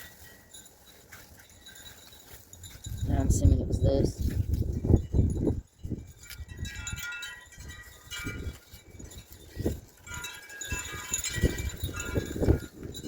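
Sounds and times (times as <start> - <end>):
metal wind chimes ringing: 0.0 - 13.0
wind buffeting the microphone: 1.8 - 13.0.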